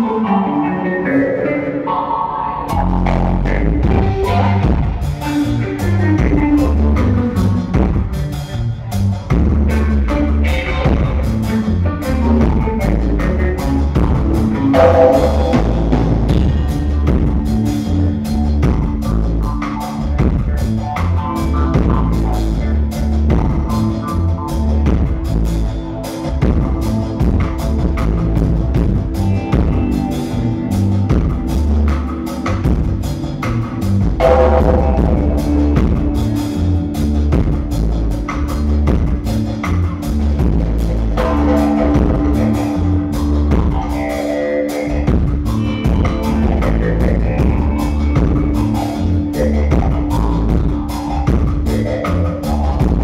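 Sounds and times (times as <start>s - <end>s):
electric bass line: 0.0s - 53.0s
electric guitar: 0.0s - 53.0s
keyboards: 0.0s - 53.0s
drum kit with cymbal hits: 2.7s - 53.0s.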